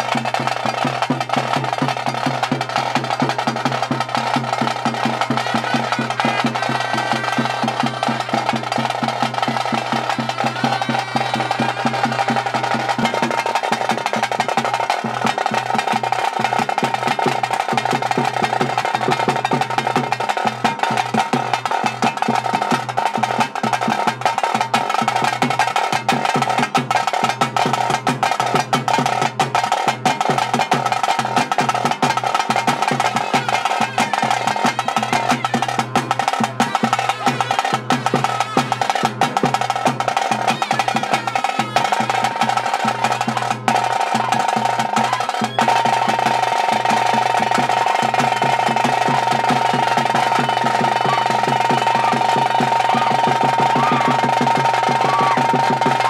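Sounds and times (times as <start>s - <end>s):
fast dense drumming: 0.0s - 56.0s.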